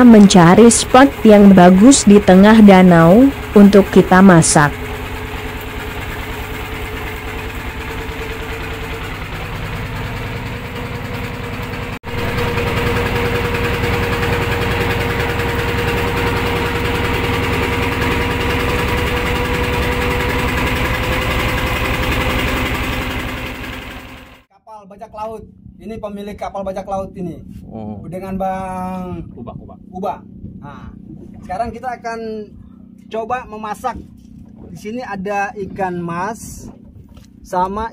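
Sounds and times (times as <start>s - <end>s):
boat engine running: 0.0s - 37.9s.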